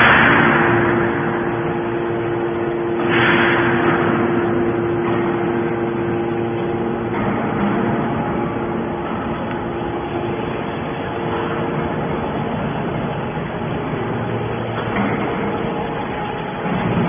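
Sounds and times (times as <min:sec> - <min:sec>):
hydraulic baler humming: 0:00.0 - 0:17.0.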